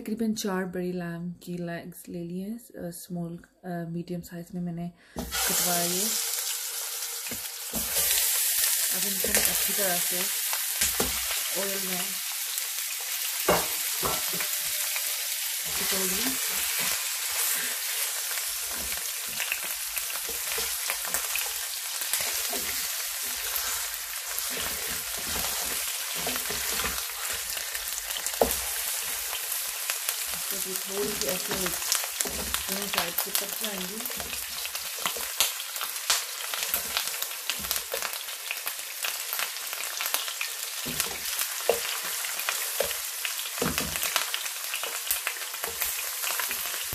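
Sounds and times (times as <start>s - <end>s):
meat sizzling in hot oil: 5.3s - 46.9s.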